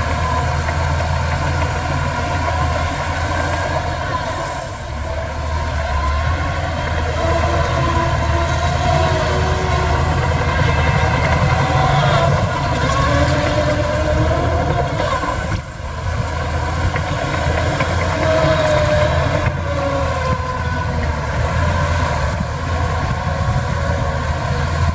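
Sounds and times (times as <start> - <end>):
heavy machinery diesel engines rumbling: 0.0 - 24.9.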